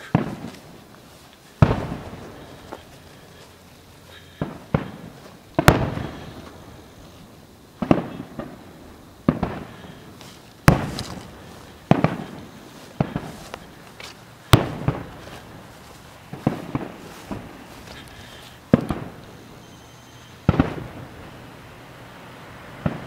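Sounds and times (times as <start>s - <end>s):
fireworks bursting with echo: 0.0s - 23.0s.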